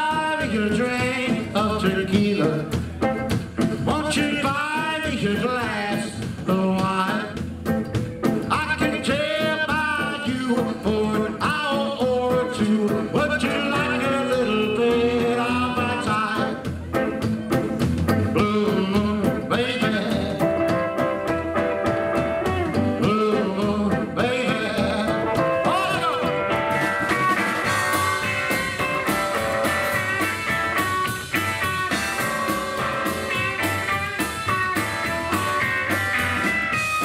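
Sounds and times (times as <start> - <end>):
electric guitar lead: 0.0 - 37.0
live rockabilly band playing: 0.0 - 37.0.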